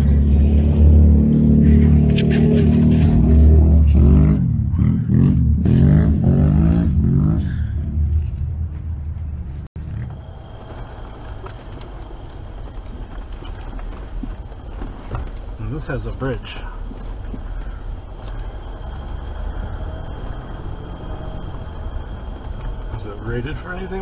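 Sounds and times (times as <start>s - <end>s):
steady driving noise: 0.0s - 24.0s
vehicle engine revving: 0.0s - 24.0s.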